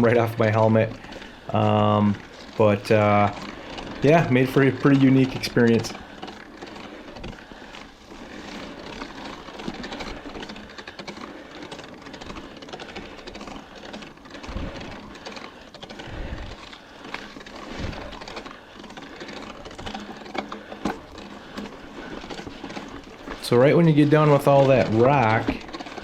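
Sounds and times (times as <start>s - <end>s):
bike rattling and clicking: 0.0s - 26.0s.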